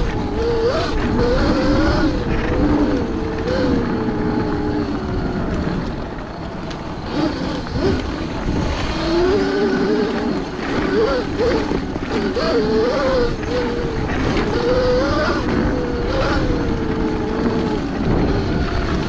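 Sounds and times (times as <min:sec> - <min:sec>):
electric motor whine: 0:00.0 - 0:19.0
rolling noise: 0:00.0 - 0:19.0
wind rush: 0:00.0 - 0:19.0.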